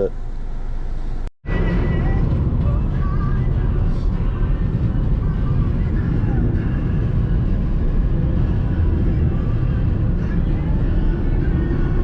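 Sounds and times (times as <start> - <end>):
car driving road and engine noise: 0.0 - 12.0.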